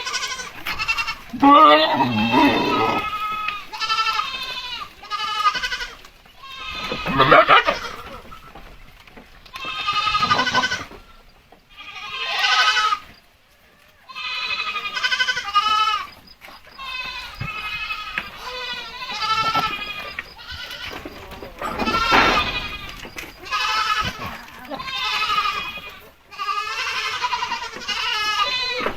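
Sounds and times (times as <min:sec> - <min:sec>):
goats bleating: 0:00.0 - 0:28.9.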